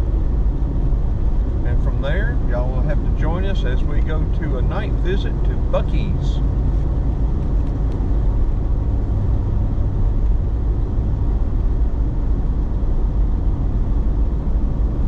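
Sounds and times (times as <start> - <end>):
car engine rumble: 0.0 - 15.0
road noise inside car: 0.0 - 15.0.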